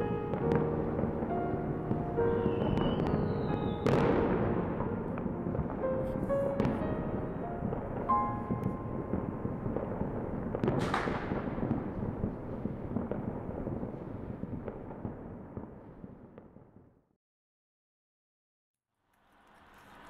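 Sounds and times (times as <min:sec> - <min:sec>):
firecrackers crackling: 0:00.0 - 0:16.7, 0:19.1 - 0:20.0
loud sharp firework burst: 0:00.0 - 0:16.8.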